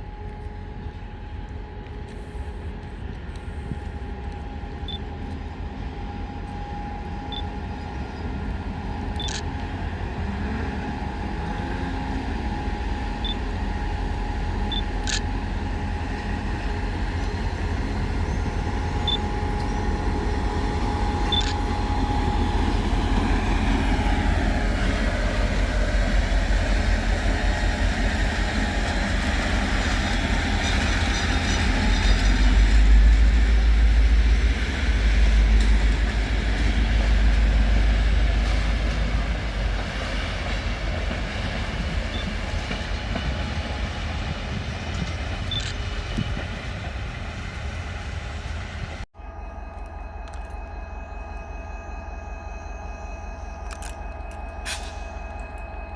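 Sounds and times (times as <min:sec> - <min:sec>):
freight train rumbling: 0:00.0 - 0:55.9.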